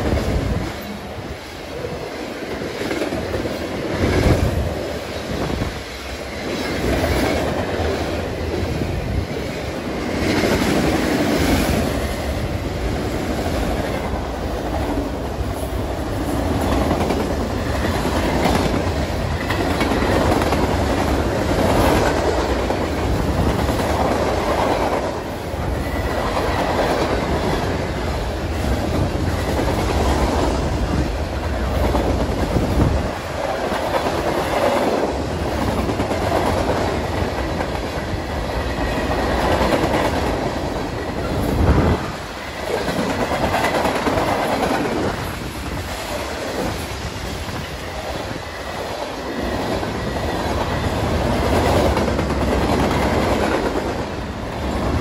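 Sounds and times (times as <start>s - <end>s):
steel wheels on rails: 0.0s - 55.0s.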